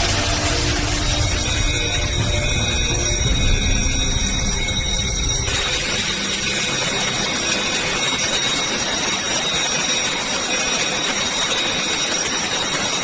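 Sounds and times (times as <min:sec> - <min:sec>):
fire alarm ringing: 0:00.0 - 0:13.0.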